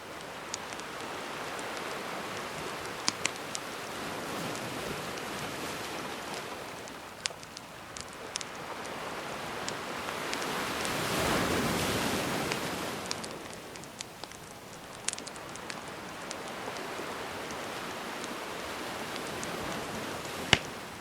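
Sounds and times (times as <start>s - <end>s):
sea waves washing ashore: 0.0s - 21.0s
wood fire crackling: 0.0s - 21.0s.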